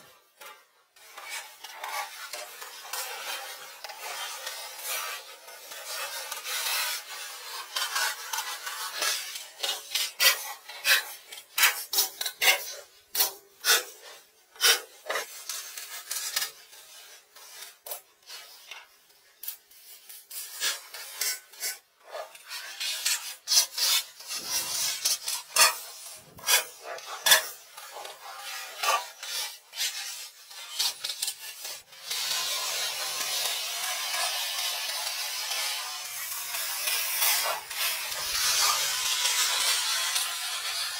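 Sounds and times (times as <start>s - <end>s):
sheet rubbing and scraping on wood: 0.0s - 40.9s.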